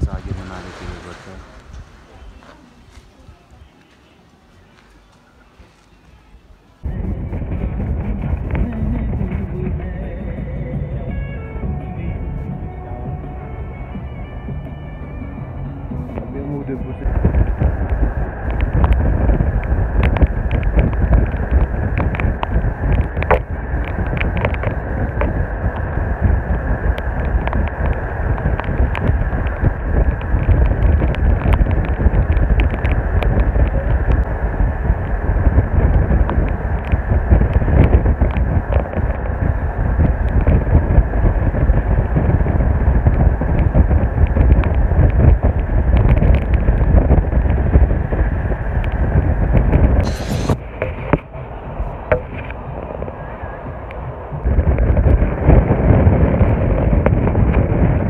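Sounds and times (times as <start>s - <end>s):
car road noise rumble: 0.0s - 58.0s
wind buffeting microphone: 0.0s - 58.0s.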